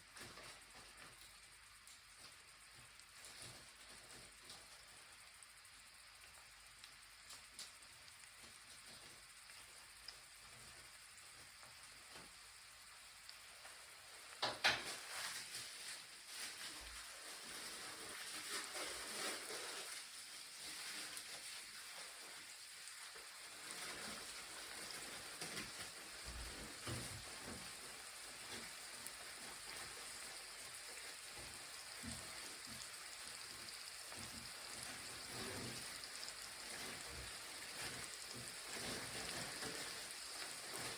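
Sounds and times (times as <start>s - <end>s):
food sizzling in pan: 0.0s - 40.9s.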